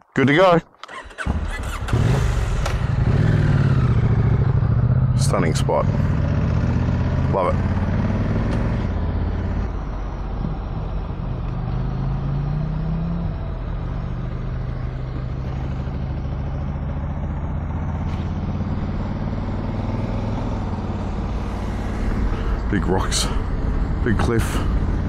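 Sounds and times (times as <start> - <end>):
wind and road noise: 0.0 - 25.0
motorcycle engine running: 1.2 - 25.0.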